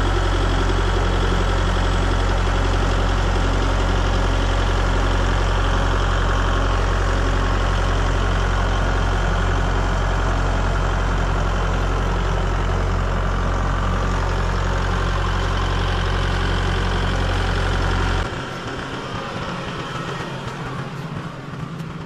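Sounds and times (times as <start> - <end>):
large engine humming: 0.0 - 22.0.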